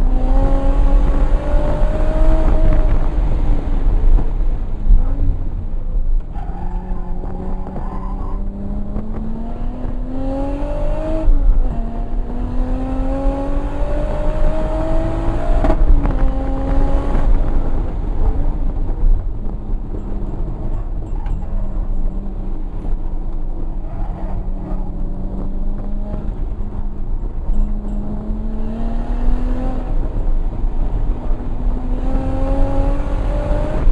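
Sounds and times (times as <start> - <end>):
car engine accelerating hard: 0.0 - 33.9.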